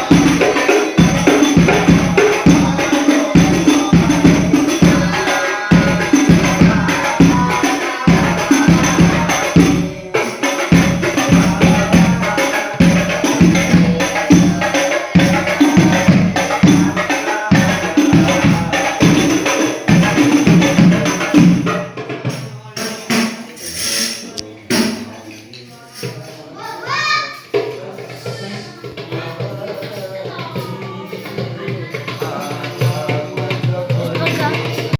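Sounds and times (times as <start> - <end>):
frame drums fast rhythm: 0.0 - 34.9.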